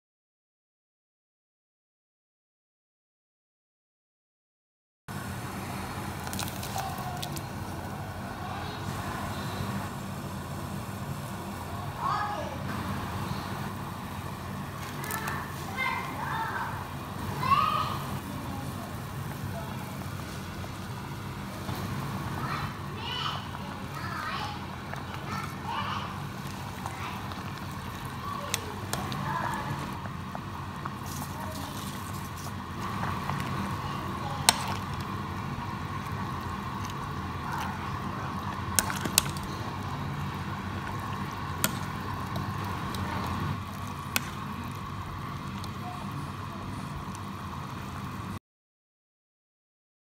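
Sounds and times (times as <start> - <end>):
ladle stirring leaves: 5.1 - 12.2, 13.3 - 48.1
soup bubbling on the boil: 5.1 - 48.4.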